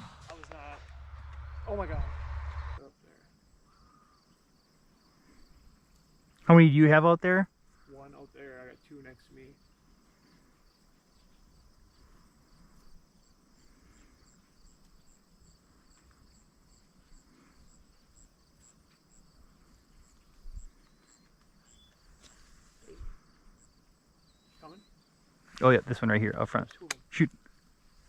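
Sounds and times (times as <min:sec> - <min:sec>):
crickets chirping: 0:00.3 - 0:28.0.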